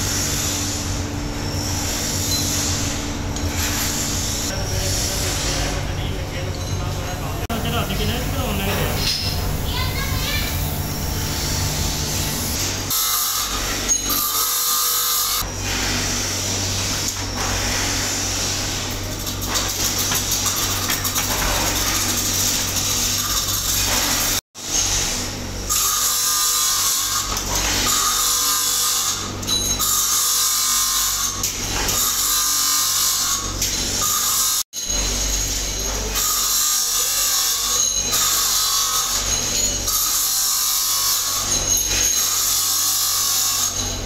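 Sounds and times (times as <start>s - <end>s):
power tool running: 7.3s - 44.0s.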